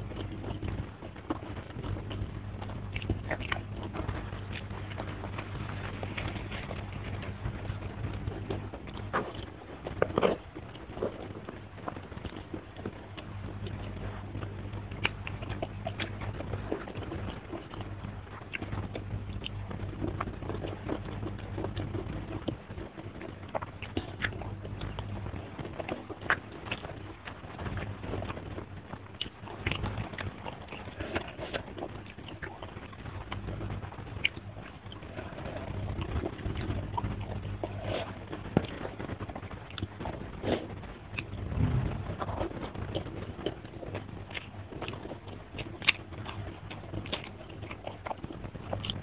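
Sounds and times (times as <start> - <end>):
person chewing and biting food: 0.0 - 49.0.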